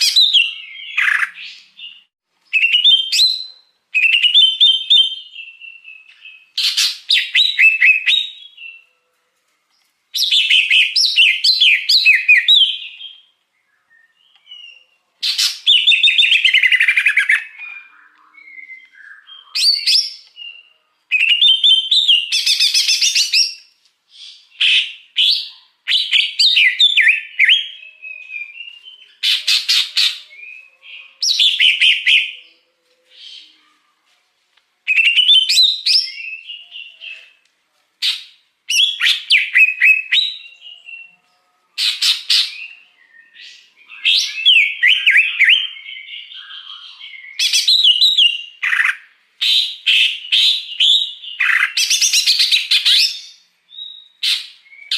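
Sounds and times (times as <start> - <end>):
bird singing chirps and whistles: 0.0 - 8.9, 10.2 - 33.6, 34.9 - 37.4, 38.0 - 41.2, 41.8 - 54.9.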